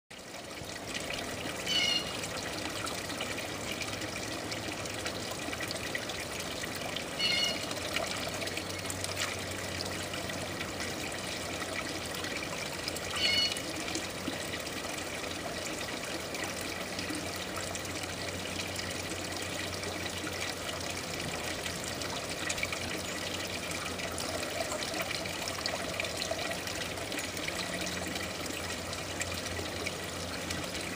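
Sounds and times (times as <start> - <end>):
water trickling over rocks: 0.1 - 30.9
water splashing into basin: 0.2 - 30.9.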